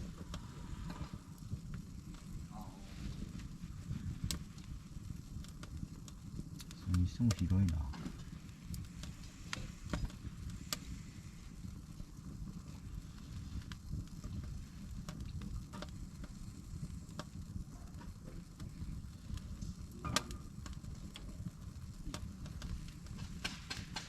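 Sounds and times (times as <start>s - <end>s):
low fire rumble: 0.0s - 24.0s
sharp fire pops: 0.0s - 24.0s
wood fire crackling: 0.0s - 24.0s.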